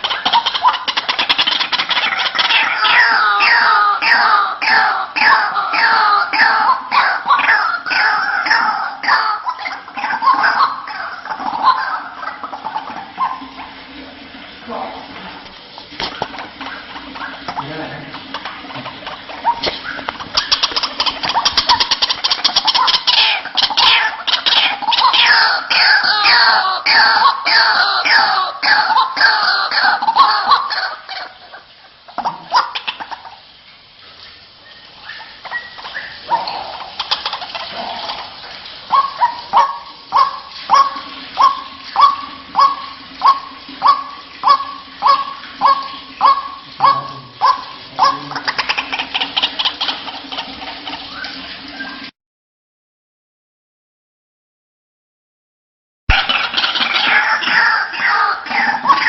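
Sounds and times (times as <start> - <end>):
waterhen calling: 0.0 - 52.1, 56.1 - 59.0.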